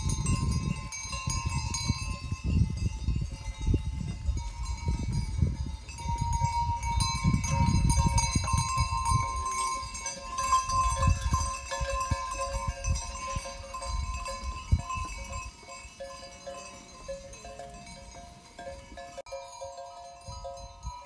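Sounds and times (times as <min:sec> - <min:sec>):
sheep bells jingling and clanking: 0:00.0 - 0:21.0.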